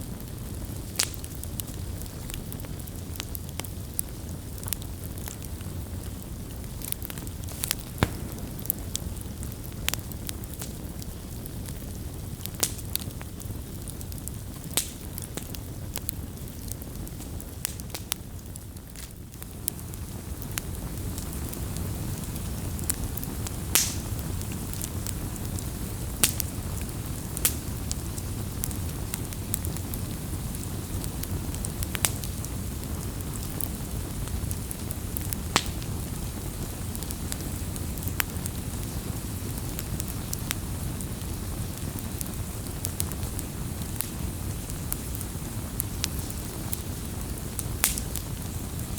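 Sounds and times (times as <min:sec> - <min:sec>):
campfire crackling and popping: 0:00.0 - 0:48.9
low rumble of burning fire: 0:00.0 - 0:48.9.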